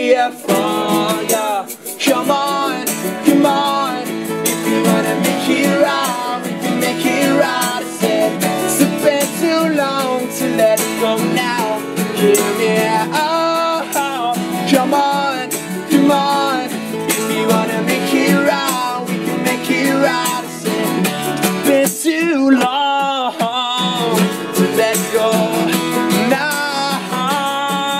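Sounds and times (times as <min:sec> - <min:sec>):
strummed acoustic guitar: 0:00.0 - 0:27.9
voices singing: 0:00.0 - 0:27.9.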